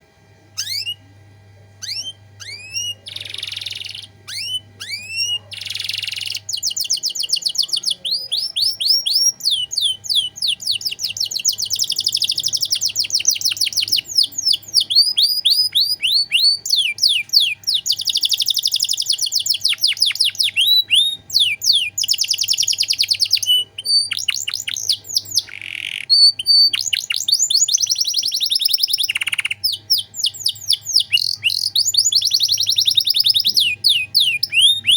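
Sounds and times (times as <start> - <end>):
faint low hum: 0.0 - 34.9
canary singing trills: 0.6 - 1.1, 1.8 - 34.9.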